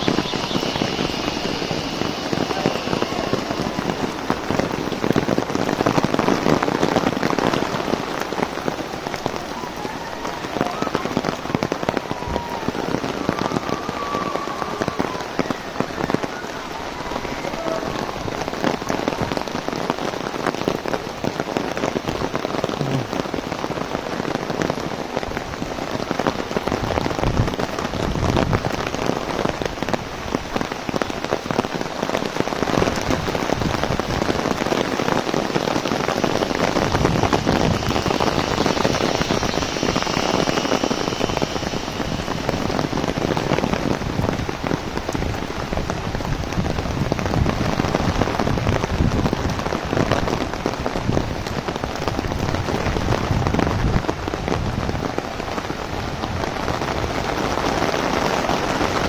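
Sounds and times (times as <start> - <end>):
heavy rain on an umbrella: 0.0 - 59.0.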